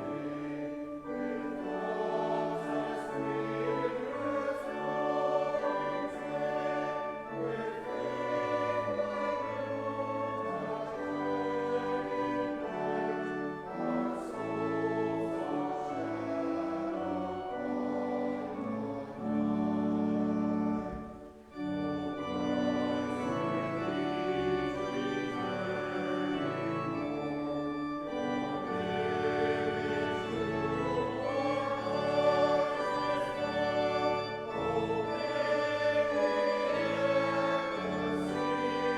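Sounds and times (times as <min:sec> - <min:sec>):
congregation singing a hymn: 0:00.0 - 0:38.9
organ accompaniment: 0:00.0 - 0:38.9.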